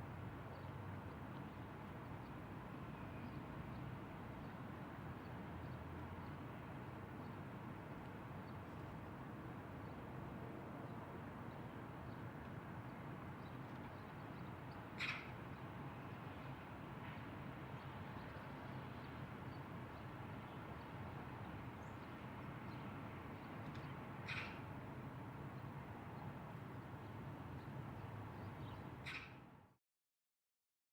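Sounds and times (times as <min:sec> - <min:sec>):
outdoor background noise: 0:00.0 - 0:29.8.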